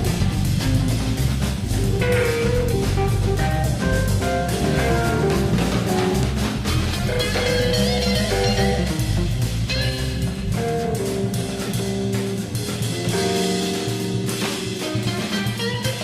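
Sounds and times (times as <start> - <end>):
music with guitar and drum kit: 0.0 - 16.0.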